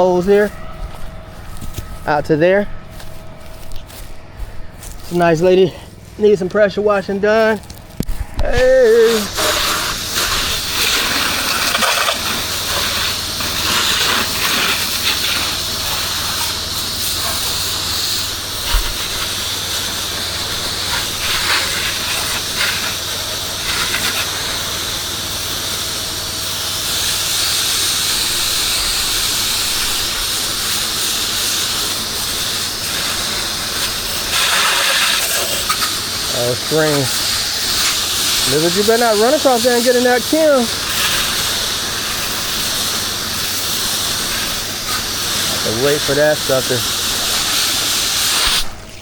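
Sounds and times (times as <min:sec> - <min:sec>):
pressure washer spraying: 0:08.5 - 0:49.0.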